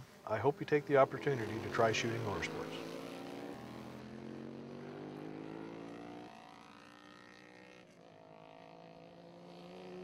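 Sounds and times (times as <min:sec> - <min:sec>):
distant racing motorcycle engines: 0:00.2 - 0:10.0.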